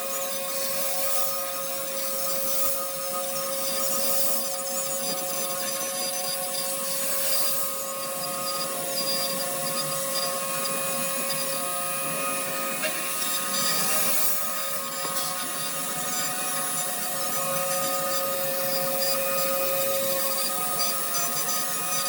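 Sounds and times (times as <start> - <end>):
cnc spindle whine: 0.0 - 22.0.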